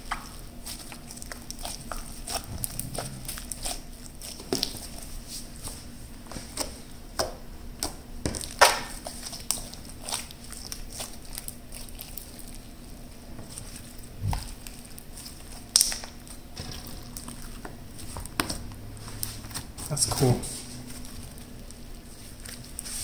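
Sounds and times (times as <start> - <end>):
slime popping and crackling: 0.0 - 5.1, 7.8 - 12.7, 13.4 - 22.9.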